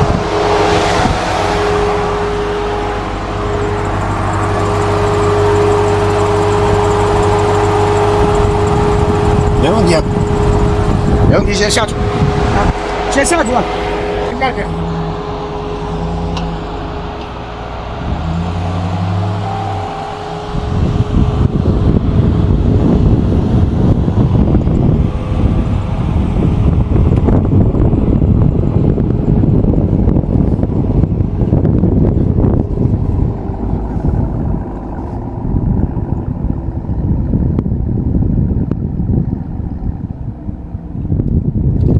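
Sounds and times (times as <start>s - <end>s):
loud rough rumble: 0.0s - 41.9s
off-road vehicle engine running: 0.0s - 41.9s.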